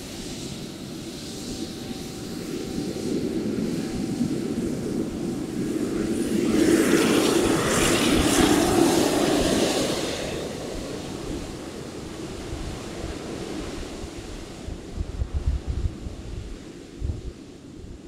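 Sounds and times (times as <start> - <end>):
jet engines taxiing: 0.0 - 15.0.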